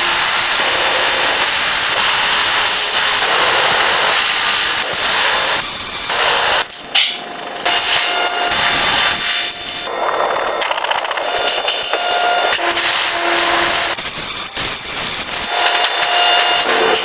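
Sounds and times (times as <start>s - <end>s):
power tool hissing: 0.0s - 17.0s.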